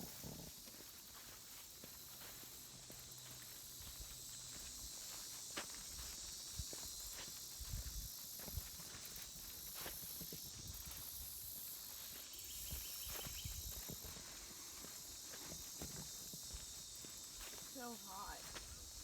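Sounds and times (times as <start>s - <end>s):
footsteps on dirt trail: 0.0s - 19.0s
steady high-pitched hiss: 0.0s - 19.0s.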